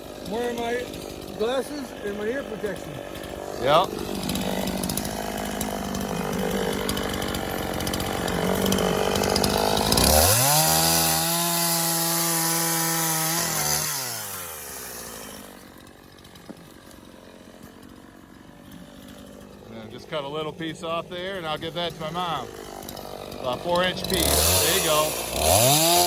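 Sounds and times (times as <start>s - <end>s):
chainsaw cutting through log: 0.0s - 26.0s
chainsaw running and revving: 0.0s - 26.0s.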